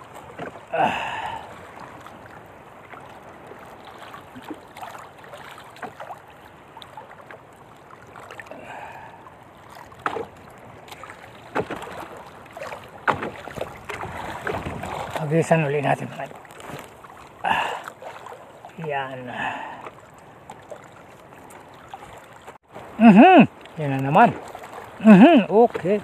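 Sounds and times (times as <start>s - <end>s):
water lapping against hull: 0.0s - 26.0s.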